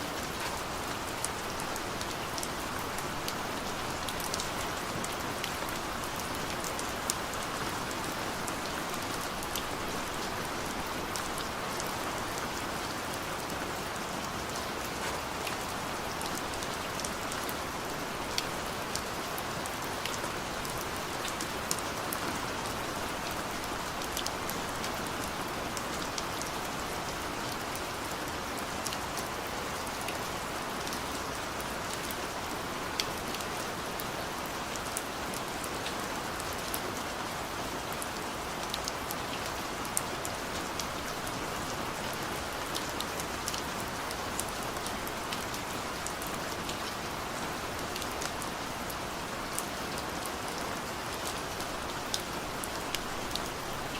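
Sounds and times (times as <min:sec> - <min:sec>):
heavy rain downpour: 0:00.0 - 0:53.9.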